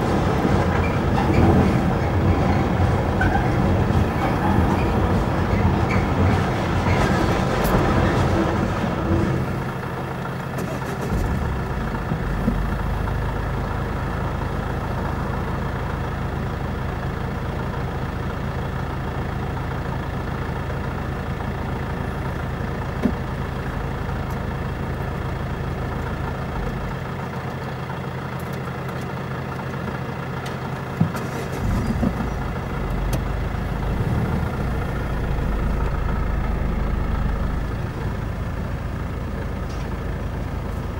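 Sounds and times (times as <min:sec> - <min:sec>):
freight train wagons rumbling: 0:00.0 - 0:40.9
vehicle engine idling: 0:00.0 - 0:40.9.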